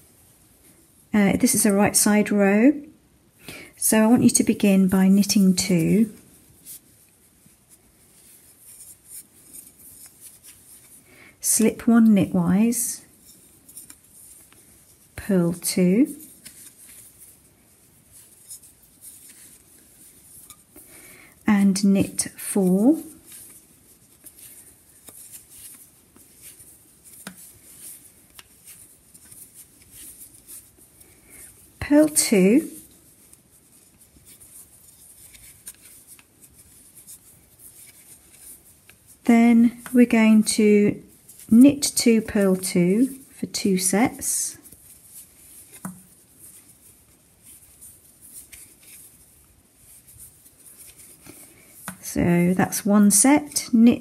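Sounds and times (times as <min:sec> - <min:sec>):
knitting needles and yarn rubbing: 0:00.0 - 0:03.0, 0:03.7 - 0:54.0.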